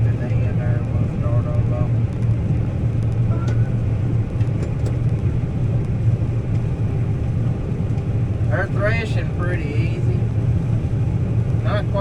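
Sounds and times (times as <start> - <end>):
combine harvester drone: 0.0 - 12.0.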